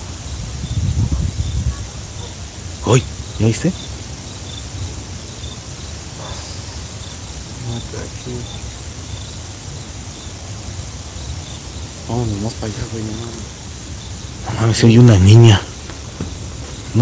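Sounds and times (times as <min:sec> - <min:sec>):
cricket chirping: 0:00.0 - 0:17.0
night ambience hiss: 0:00.0 - 0:17.0.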